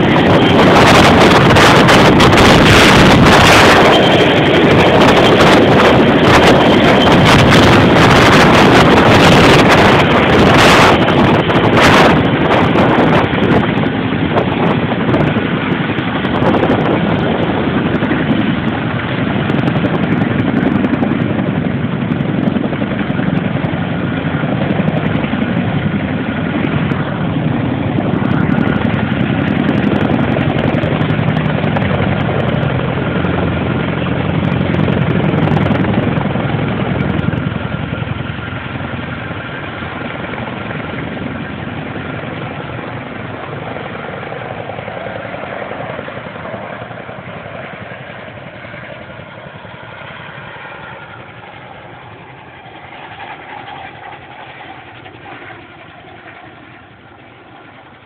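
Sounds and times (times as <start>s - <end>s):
helicopter running: 0.0s - 58.0s.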